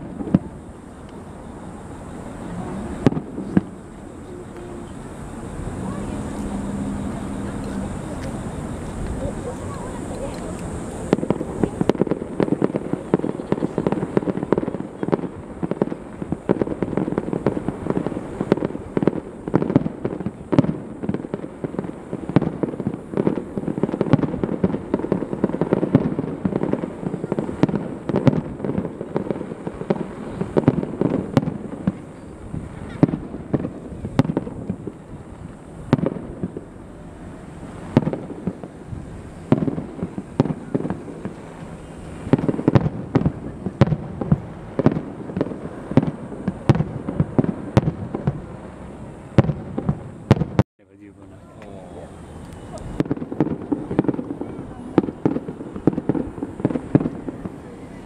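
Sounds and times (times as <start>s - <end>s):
continuous rumble: 0.0s - 58.0s
fireworks bangs and crackles: 0.0s - 58.0s.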